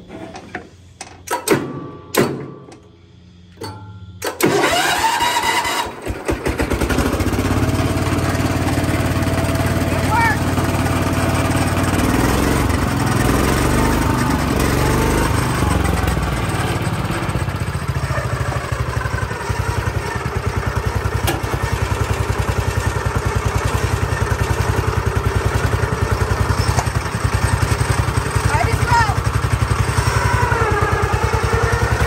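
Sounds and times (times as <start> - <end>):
tractor engine idling: 2.7 - 32.0.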